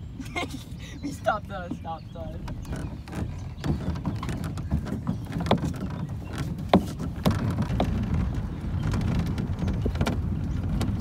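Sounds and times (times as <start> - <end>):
low rumble on road: 0.0 - 11.0
rattling clicks and knocks: 1.7 - 11.0.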